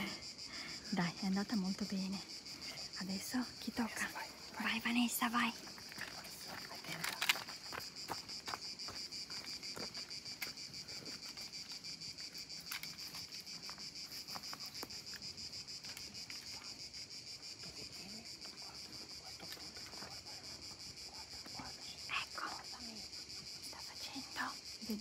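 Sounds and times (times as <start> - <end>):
insects shrilling: 0.0 - 25.0.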